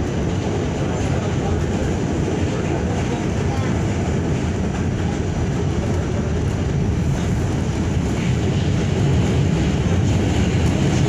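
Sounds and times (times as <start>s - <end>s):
subway train rumbling on rails: 0.0s - 11.0s.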